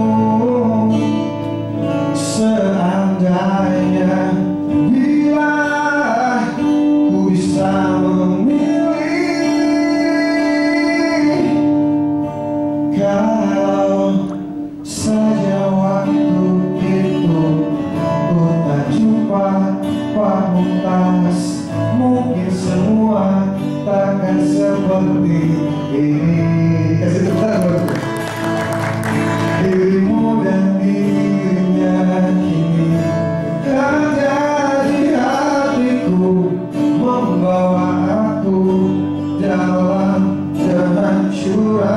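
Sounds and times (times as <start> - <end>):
man singing into microphone: 0.0 - 11.8, 12.8 - 41.9
instrumental backing: 0.0 - 41.9.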